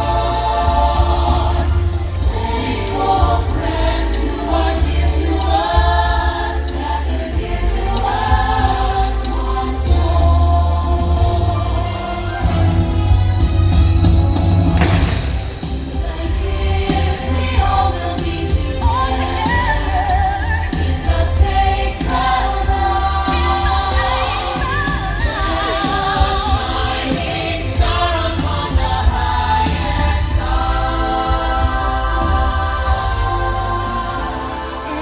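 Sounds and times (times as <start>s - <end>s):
choir singing held notes: 0.0s - 35.0s.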